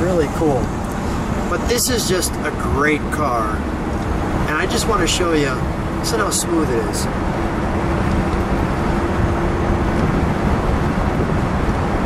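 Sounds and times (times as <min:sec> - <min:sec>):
car engine cruising: 0:00.0 - 0:12.0
tyre and road noise: 0:00.0 - 0:12.0.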